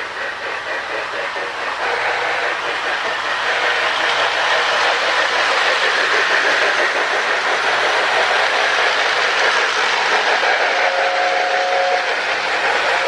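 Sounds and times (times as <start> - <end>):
toy train whirring on rails: 0.0 - 13.0.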